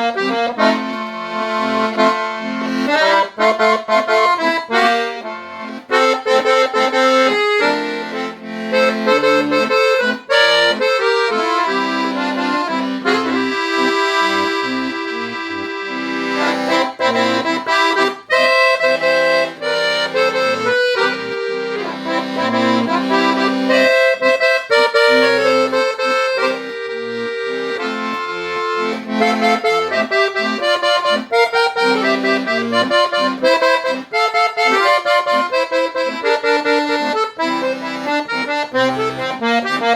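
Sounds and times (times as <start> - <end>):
solo accordion melody: 0.0 - 39.9.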